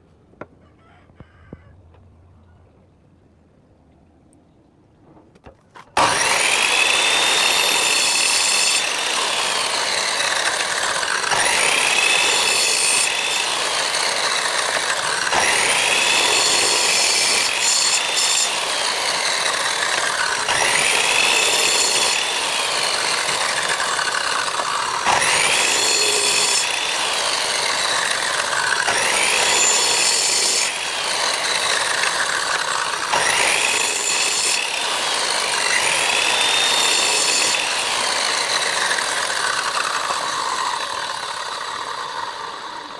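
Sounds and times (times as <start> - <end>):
power tool motor whine: 6.0 - 42.9.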